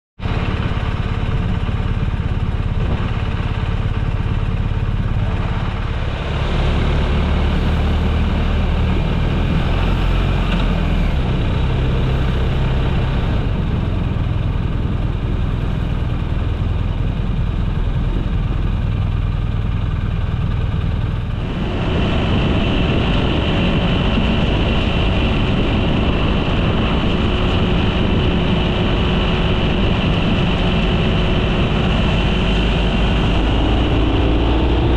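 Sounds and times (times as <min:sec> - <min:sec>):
deep vehicle noise: 0:00.2 - 0:34.9.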